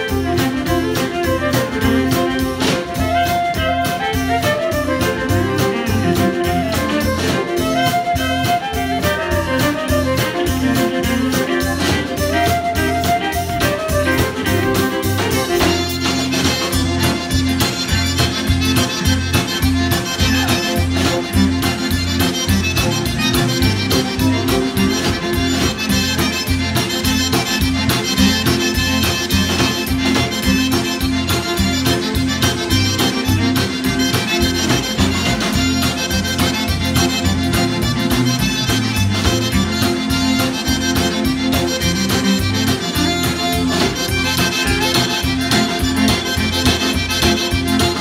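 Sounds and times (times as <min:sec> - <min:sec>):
accordion: 0:00.0 - 0:48.0
acoustic guitar: 0:00.0 - 0:48.0
drum kit beat: 0:00.0 - 0:48.0
fiddles: 0:00.0 - 0:48.0.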